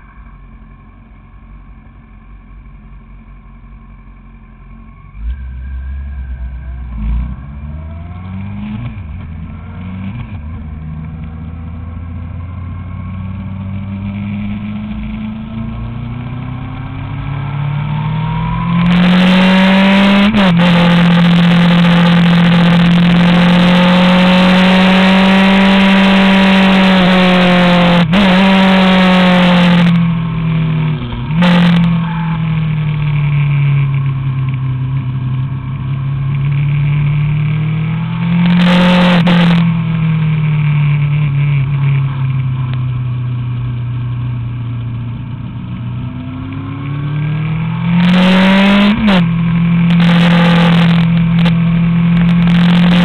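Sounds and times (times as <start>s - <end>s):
motorcycle engine at high revs: 5.2s - 53.0s.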